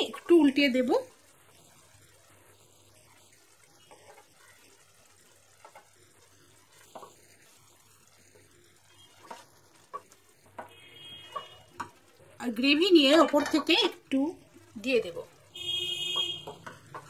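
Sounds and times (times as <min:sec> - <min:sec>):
gravy simmering in a pan: 0:00.0 - 0:17.0.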